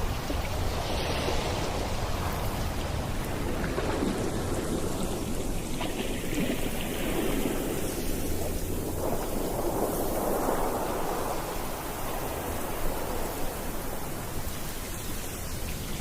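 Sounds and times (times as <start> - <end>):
sea rushing: 0.0 - 16.0
wind: 0.0 - 16.0.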